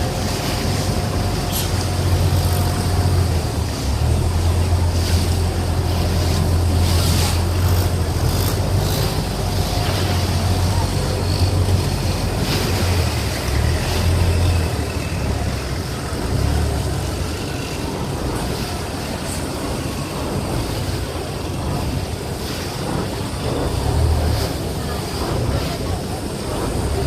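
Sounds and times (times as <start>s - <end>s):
ferry engine rumble: 0.0s - 27.0s
water washing: 0.0s - 27.0s.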